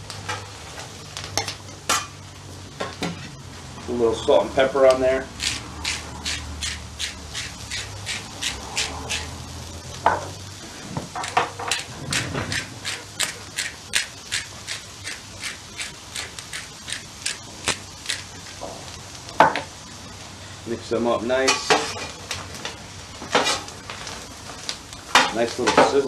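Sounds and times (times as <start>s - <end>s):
vegetables sizzling on a grill: 0.0s - 26.0s.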